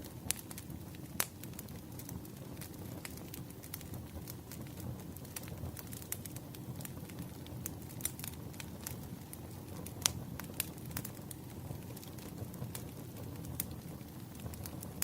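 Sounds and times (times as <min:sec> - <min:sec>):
firewood crackling and popping: 0:00.0 - 0:15.0
low rush of flame: 0:00.0 - 0:15.0.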